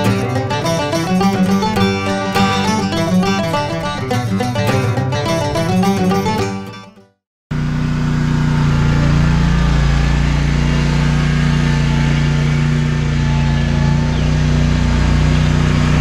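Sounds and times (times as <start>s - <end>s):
mower engine running: 0.0s - 6.8s, 7.5s - 16.0s.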